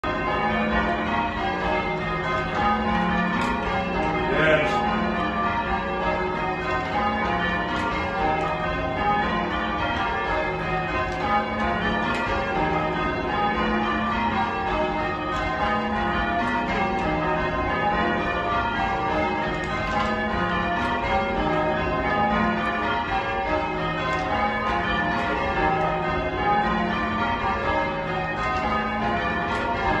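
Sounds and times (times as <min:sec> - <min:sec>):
church bells change ringing: 0:00.0 - 0:30.0.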